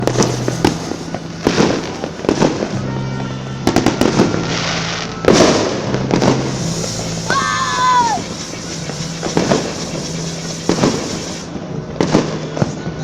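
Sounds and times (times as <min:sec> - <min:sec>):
background music: 0:00.0 - 0:12.9
fireworks bangs and crackling: 0:00.0 - 0:13.0.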